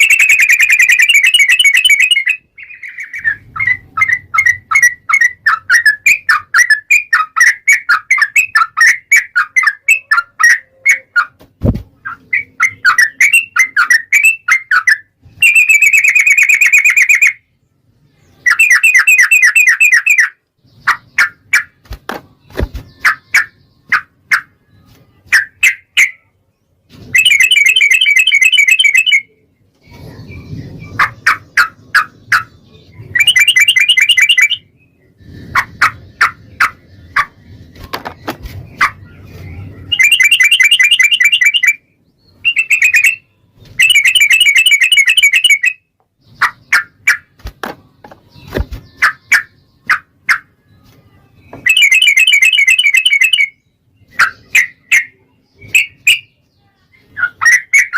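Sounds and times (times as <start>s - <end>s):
bird singing chirps and trills: 0.0s - 57.9s.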